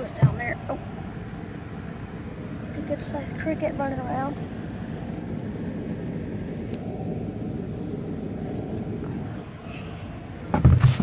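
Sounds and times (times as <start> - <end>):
air conditioner unit rumbling: 0.0 - 11.0.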